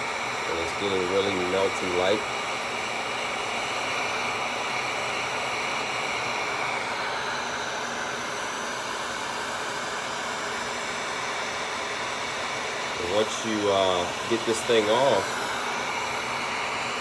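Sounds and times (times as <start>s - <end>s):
heat gun blowing hiss: 0.0s - 17.0s.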